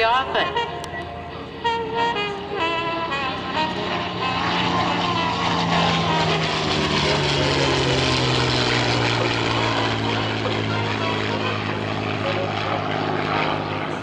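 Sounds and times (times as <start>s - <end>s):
propeller planes flying past: 0.0s - 14.0s.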